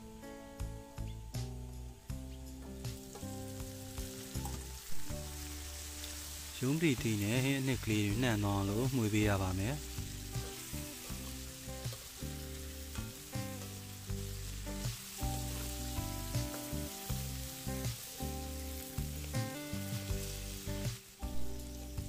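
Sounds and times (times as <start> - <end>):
okra sizzling in oil: 0.0 - 22.0
soft background music: 0.0 - 22.0.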